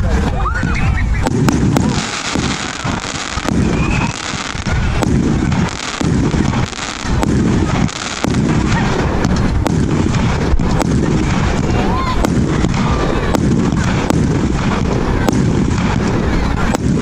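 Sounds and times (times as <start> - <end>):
firework booms: 0.0 - 17.0
firework crackling: 0.0 - 17.0
rising firework whistles: 0.2 - 17.0.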